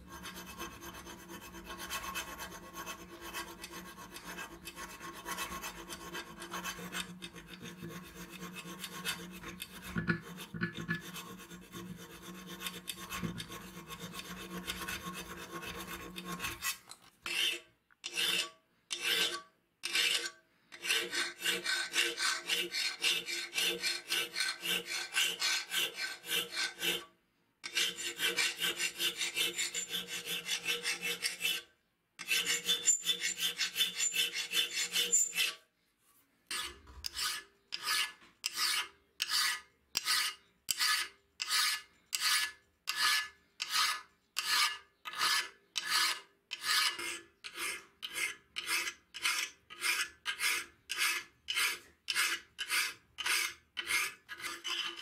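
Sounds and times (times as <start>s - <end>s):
file scraping on steel: 0.0s - 35.7s, 36.5s - 55.0s.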